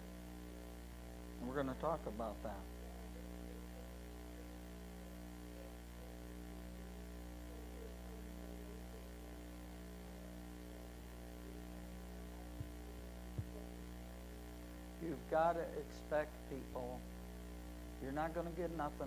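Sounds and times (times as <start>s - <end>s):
electrical mains hum: 0.0s - 19.0s
static: 0.0s - 19.0s.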